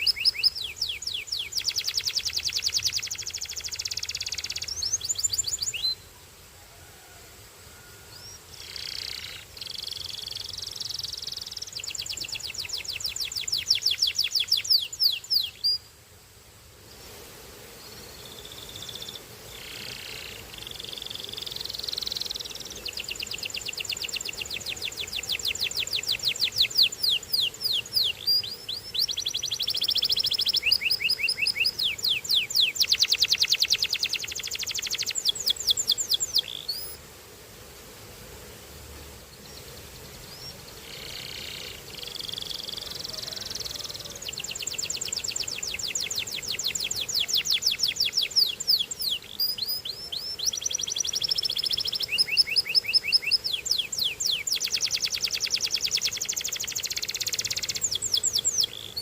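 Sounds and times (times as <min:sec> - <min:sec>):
canary singing trills: 0:00.0 - 0:06.0, 0:08.1 - 0:15.9, 0:18.2 - 0:37.0, 0:39.4 - 0:59.0.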